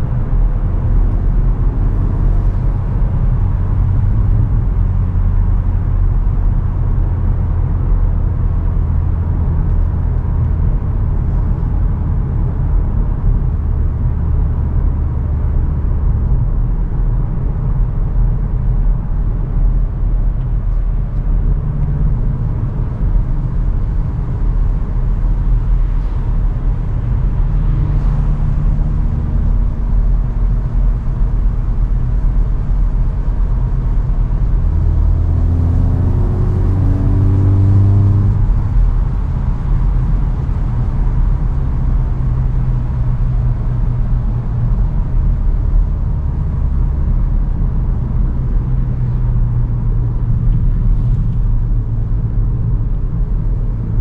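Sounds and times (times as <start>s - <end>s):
car engine drone: 0.0s - 54.0s
road and tyre noise: 0.0s - 54.0s.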